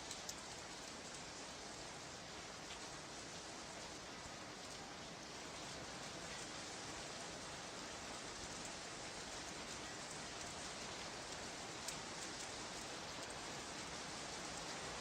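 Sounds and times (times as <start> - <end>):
rain patter hiss: 0.0 - 15.0.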